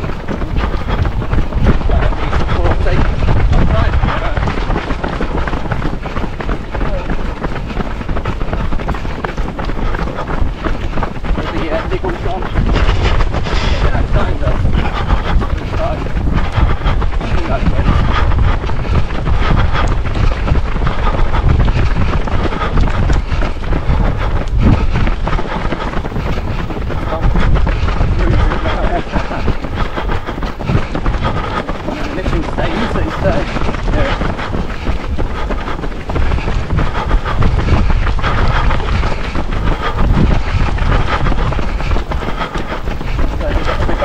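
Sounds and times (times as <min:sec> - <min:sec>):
running footsteps on tarmac: 0:00.0 - 0:44.0
wind buffeting microphone: 0:00.0 - 0:44.0.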